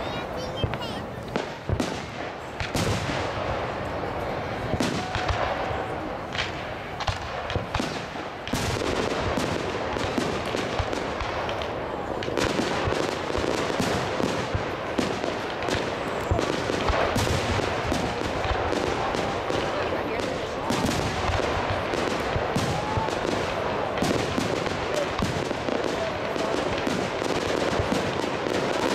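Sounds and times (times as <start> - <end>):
continuous noisy background: 0.0 - 28.9
fireworks booming and popping: 0.0 - 28.9.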